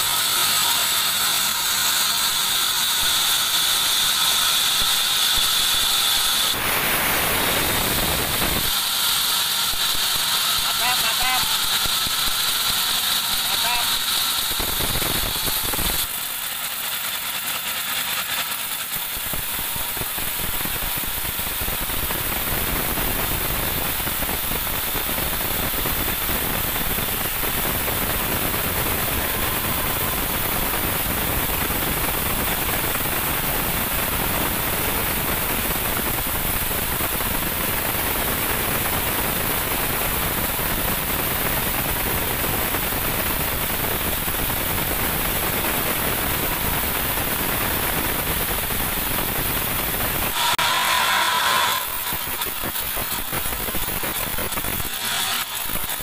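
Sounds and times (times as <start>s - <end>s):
band saw cutting log: 0.0s - 42.9s, 44.2s - 56.0s.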